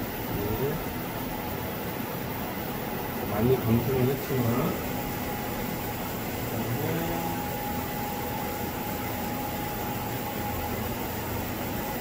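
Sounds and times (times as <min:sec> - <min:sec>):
electronics hiss and hum: 0:00.0 - 0:12.0
faint high whine: 0:00.0 - 0:12.0.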